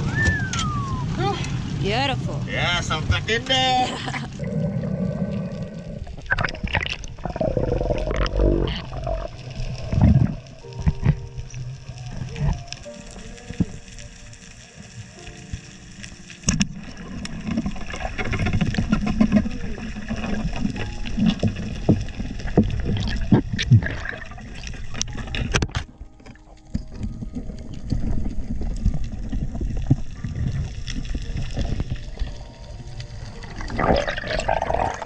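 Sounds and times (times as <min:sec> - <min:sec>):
muffled underwater rushing: 0:00.0 - 0:02.4, 0:03.0 - 0:35.0.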